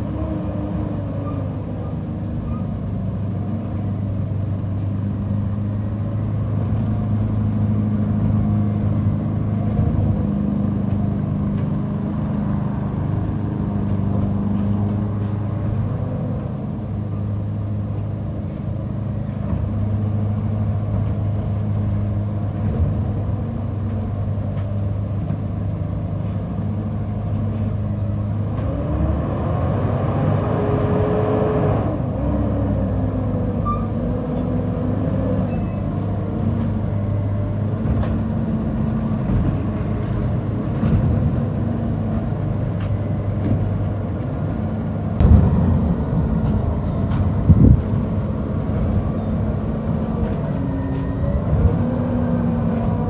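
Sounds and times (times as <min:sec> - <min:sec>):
garbage truck engine running: 0:00.0 - 0:30.5, 0:31.2 - 0:53.0.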